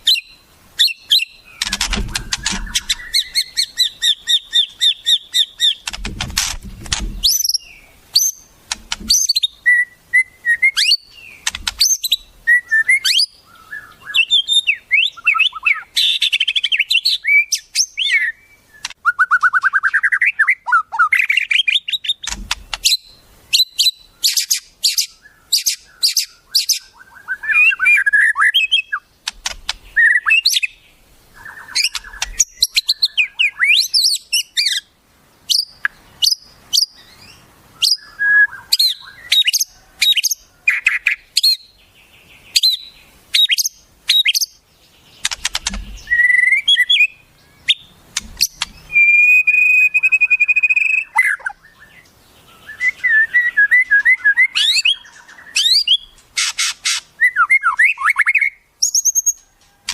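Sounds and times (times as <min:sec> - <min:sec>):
songbird chirps and whistles: 0:00.0 - 0:06.0, 0:07.0 - 0:59.9.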